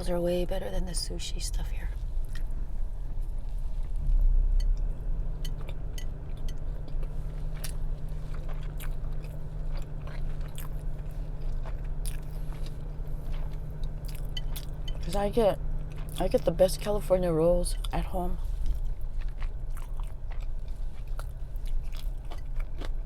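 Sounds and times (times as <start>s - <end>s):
steady low hum: 0.0s - 23.0s
chewing food: 2.2s - 17.1s, 17.7s - 23.0s.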